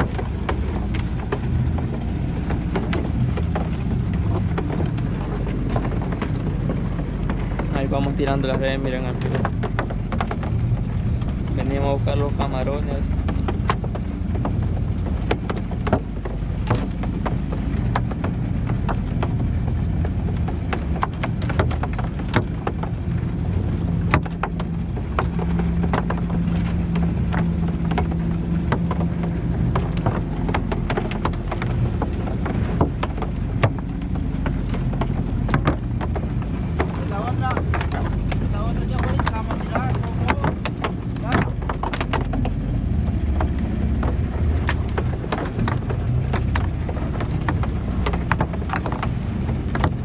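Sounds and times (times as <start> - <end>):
gillnet clicks and knocks: 0.0 - 50.0
outboard motor running: 0.0 - 50.0.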